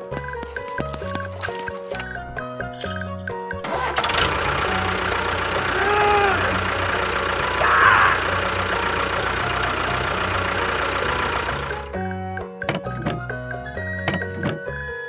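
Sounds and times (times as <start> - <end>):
engine running: 0.1 - 14.7.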